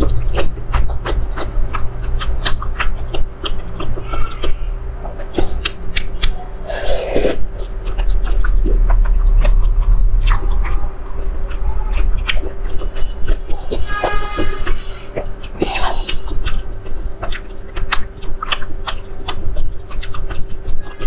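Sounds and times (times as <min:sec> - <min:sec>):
mouth clicks and lip smacks: 0:00.0 - 0:21.0
steady low hum: 0:00.0 - 0:21.0
wet chewing: 0:00.0 - 0:21.0.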